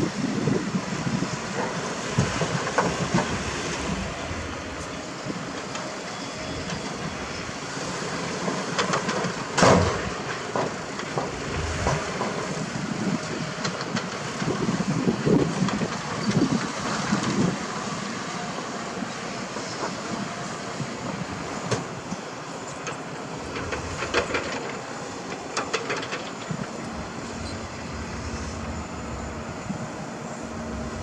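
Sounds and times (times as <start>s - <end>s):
dump truck engines running: 0.0s - 31.0s.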